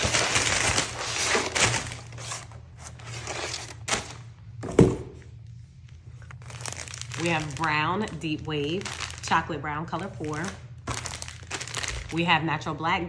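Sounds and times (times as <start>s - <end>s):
plastic packaging crinkling: 0.0s - 4.3s, 5.8s - 12.2s.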